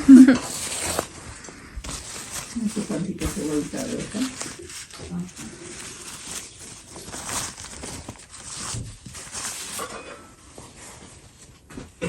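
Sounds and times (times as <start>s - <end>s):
bag rustling and crinkling: 0.0s - 12.0s.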